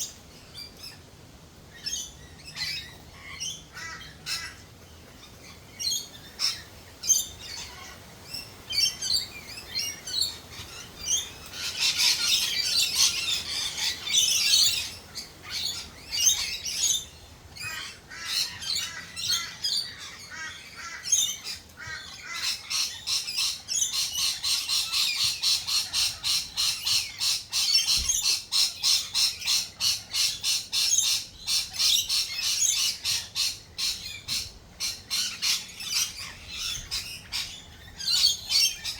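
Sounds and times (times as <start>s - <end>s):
birds squawking and chirping: 1.7s - 38.9s.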